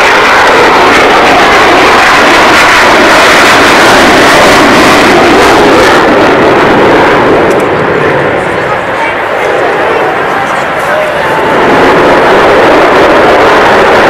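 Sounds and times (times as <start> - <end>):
jet engines passing overhead: 0.0 - 14.0.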